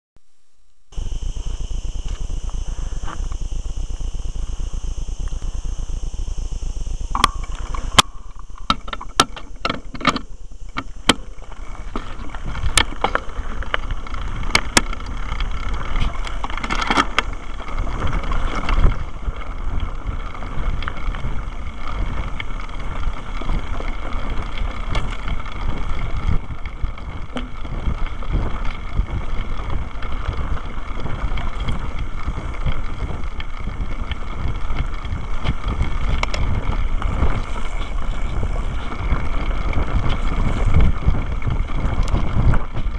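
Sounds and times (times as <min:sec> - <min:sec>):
wind on microphone: 0:00.9 - 0:42.9
tyres rumbling on dirt: 0:01.0 - 0:42.9
bike knocks and rattles: 0:07.1 - 0:42.9.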